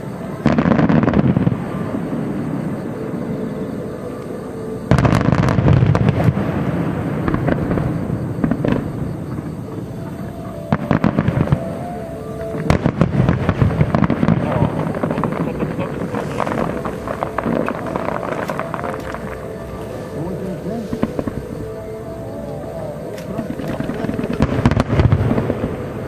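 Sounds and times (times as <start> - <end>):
firework booms with echo: 0.0 - 3.0, 4.9 - 21.9, 23.1 - 26.0
firework crackling: 0.0 - 4.3, 4.9 - 26.0.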